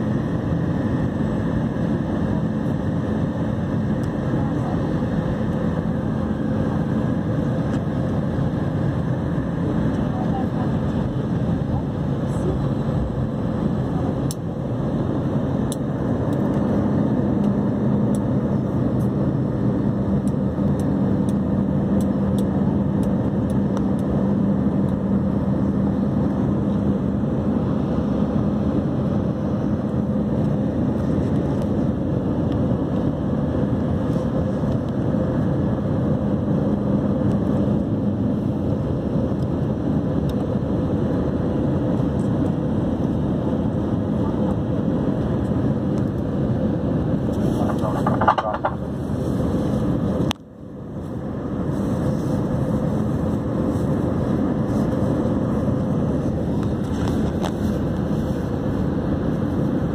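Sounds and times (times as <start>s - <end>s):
jet cabin engine and airflow rush: 0.0s - 59.9s
low steady hum: 0.0s - 59.9s.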